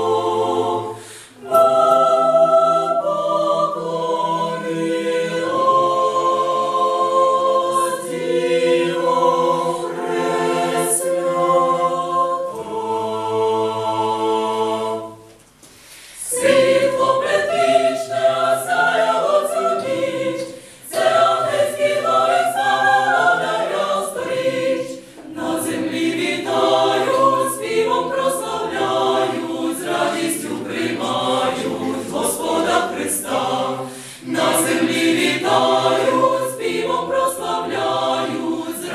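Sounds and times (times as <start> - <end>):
mixed choir singing a cappella: 0.0 - 38.9.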